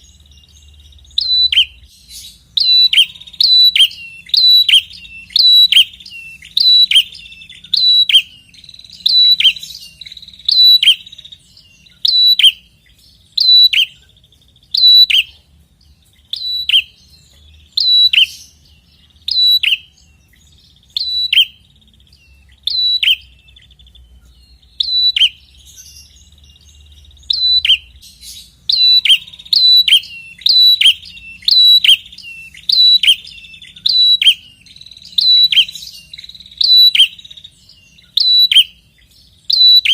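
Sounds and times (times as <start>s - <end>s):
bird calling sharp notes: 0.0s - 15.4s, 16.2s - 20.0s, 20.8s - 21.7s, 22.4s - 23.8s, 24.5s - 39.9s.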